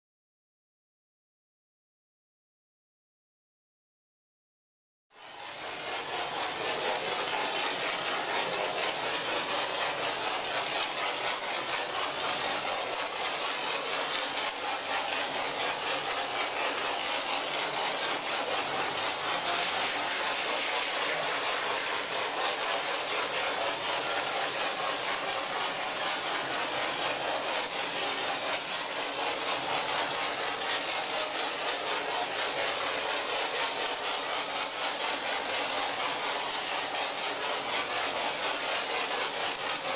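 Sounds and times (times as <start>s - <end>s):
mortar spray gun hissing: 5.2s - 39.9s.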